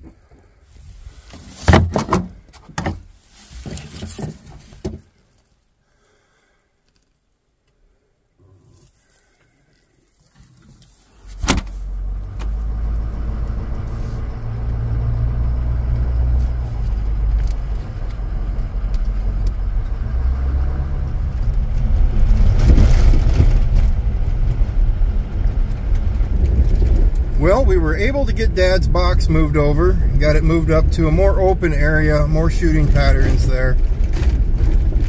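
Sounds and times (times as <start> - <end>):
truck engine and road noise: 0.0 - 5.5, 8.5 - 35.0.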